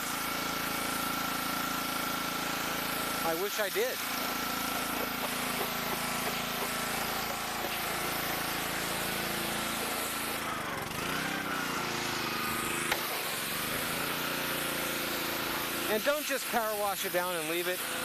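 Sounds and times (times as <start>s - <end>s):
small engine running: 0.0s - 18.0s
water spray hissing: 0.0s - 18.0s.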